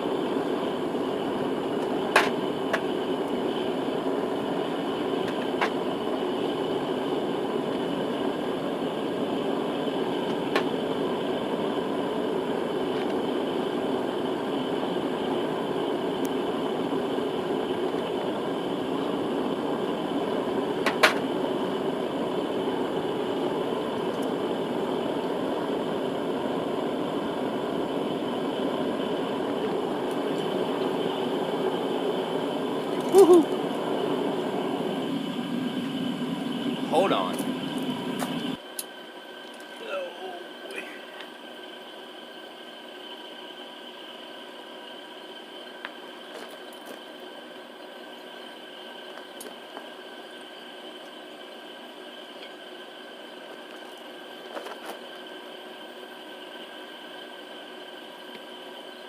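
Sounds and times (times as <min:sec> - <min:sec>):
furnace running: 0:00.0 - 0:59.0.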